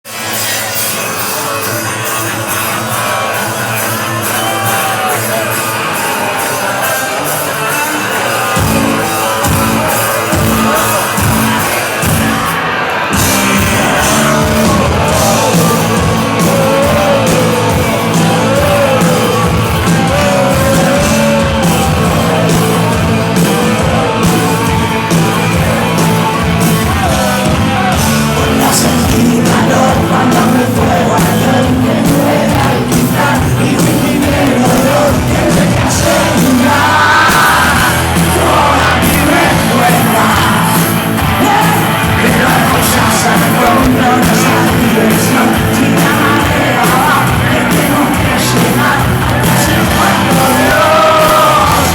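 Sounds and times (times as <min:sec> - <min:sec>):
rock band playing live: 0:00.0 - 0:51.9
bass and drums: 0:00.1 - 0:51.9
person singing: 0:00.1 - 0:51.9.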